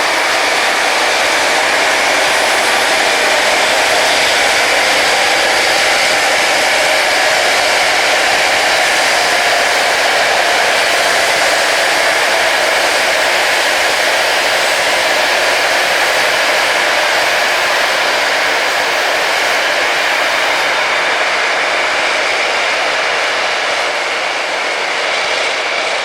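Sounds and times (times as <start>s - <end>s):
grinding wheels on rail: 0.0s - 26.0s.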